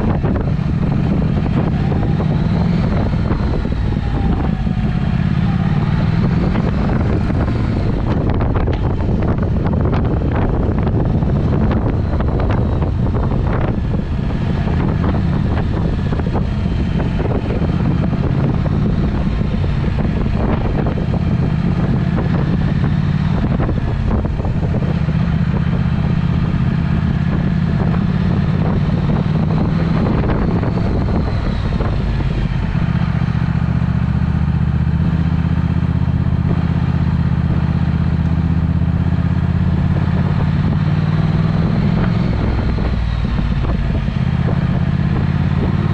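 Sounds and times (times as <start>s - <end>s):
motorcycle engine revving while riding: 0.0s - 45.9s
wind buffeting microphone: 0.0s - 45.9s.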